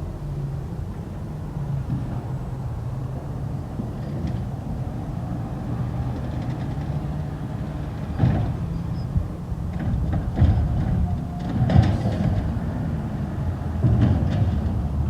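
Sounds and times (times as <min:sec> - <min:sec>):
garbage truck diesel engine: 0:00.1 - 0:15.0.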